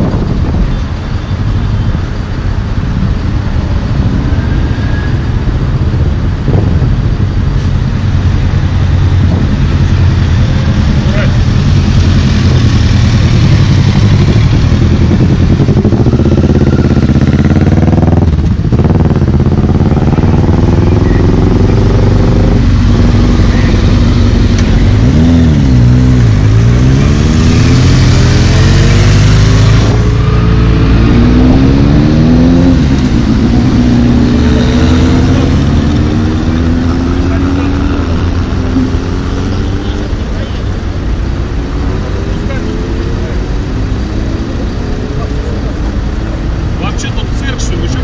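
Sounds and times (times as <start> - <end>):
motorcycle engines passing: 0.0 - 48.0
traffic drone: 0.0 - 48.0.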